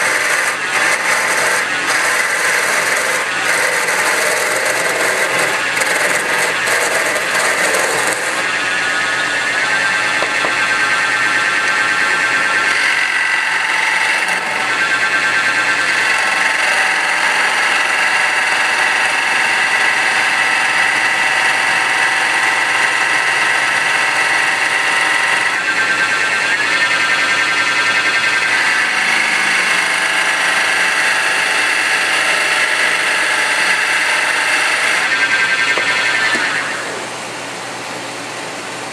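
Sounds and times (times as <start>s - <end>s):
wood lathe whining: 0.0s - 37.2s.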